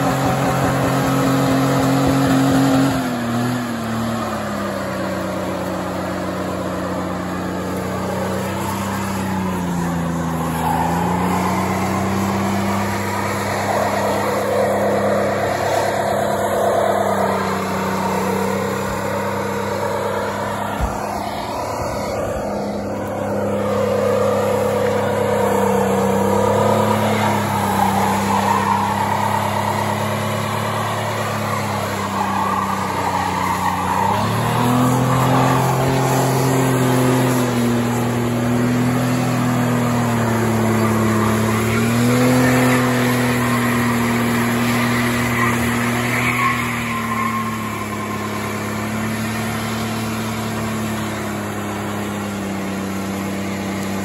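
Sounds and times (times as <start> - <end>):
engine revving at high revs: 0.0 - 54.0
tyres spinning on pavement: 0.0 - 54.0.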